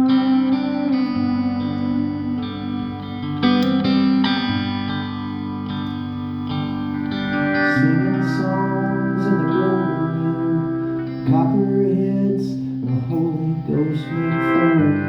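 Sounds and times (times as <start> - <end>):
electric guitar lead: 0.0 - 15.0.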